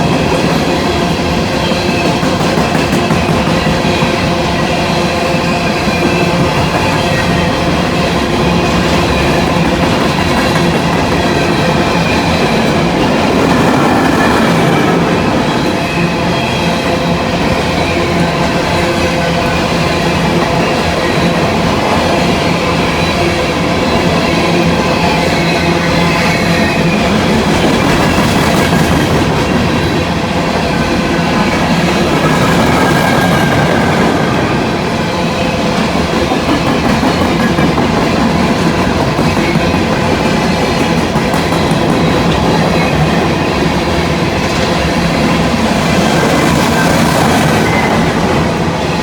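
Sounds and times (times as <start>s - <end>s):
train wheels clattering over rail joints: 0.0s - 16.5s, 23.9s - 49.0s.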